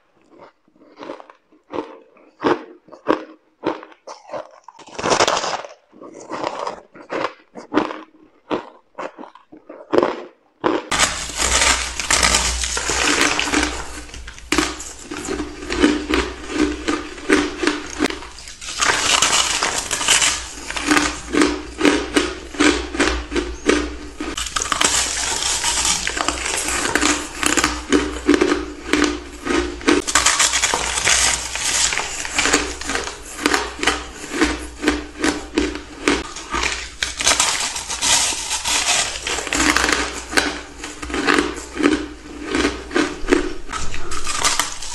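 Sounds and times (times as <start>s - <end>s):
ice crunching while chewing: 0.0s - 44.9s.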